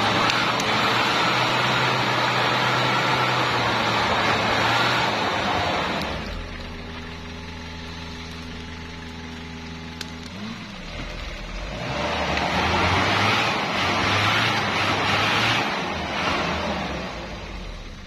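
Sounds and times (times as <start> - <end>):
engine revving: 0.0 - 8.4, 9.8 - 18.0.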